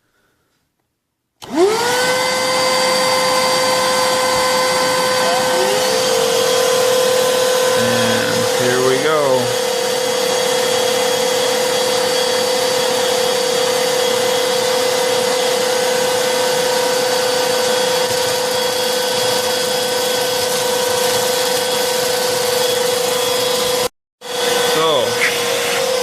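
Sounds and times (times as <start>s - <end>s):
handheld vacuums running: 1.4s - 26.0s.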